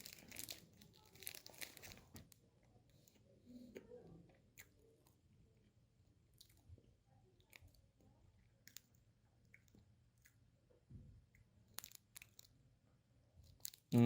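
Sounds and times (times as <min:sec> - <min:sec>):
faint chewing: 0:00.0 - 0:12.7, 0:13.3 - 0:14.0.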